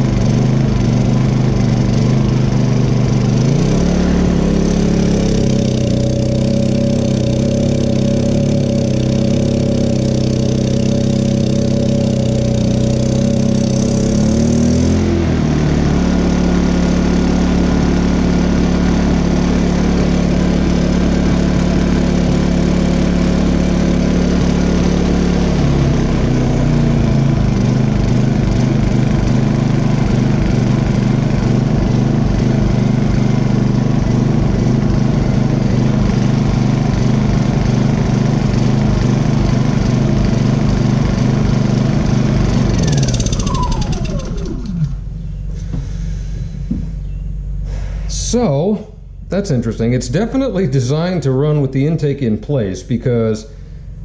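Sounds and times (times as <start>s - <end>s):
generator engine surging: 0.0s - 54.0s.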